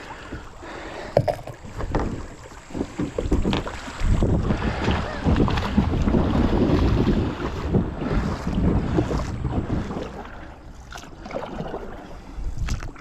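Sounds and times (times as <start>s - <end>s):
water sounds: 0.0s - 13.0s
wind rumble on microphone: 1.2s - 13.0s.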